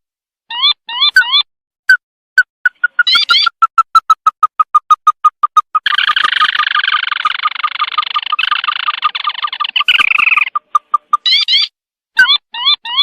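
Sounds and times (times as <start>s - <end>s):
bird call notes and trill: 0.5s - 13.0s.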